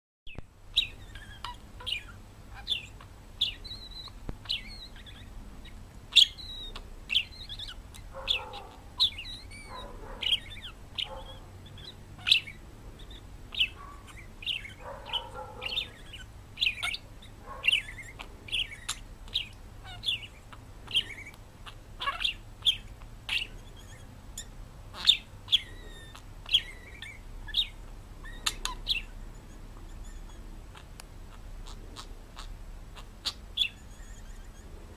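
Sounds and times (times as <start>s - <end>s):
parrot chirping: 0.3s - 34.9s
parrot lower longer calls: 0.7s - 34.8s.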